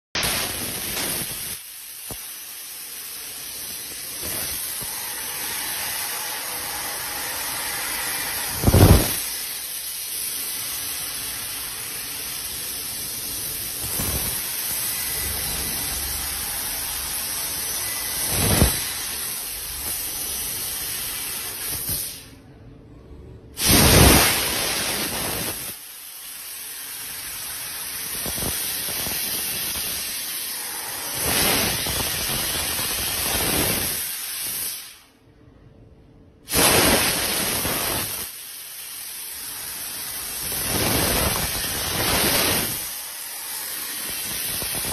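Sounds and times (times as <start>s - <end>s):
cutting gas jet hissing: 0.2s - 22.4s, 23.6s - 35.0s, 36.5s - 44.9s.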